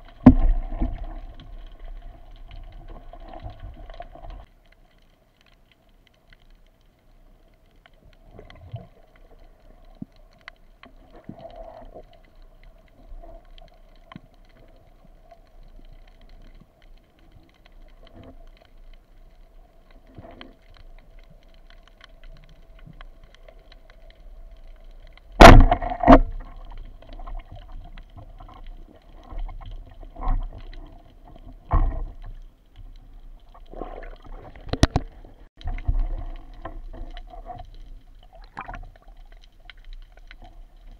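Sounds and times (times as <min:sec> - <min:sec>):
small clicks: 0:00.2 - 0:40.9.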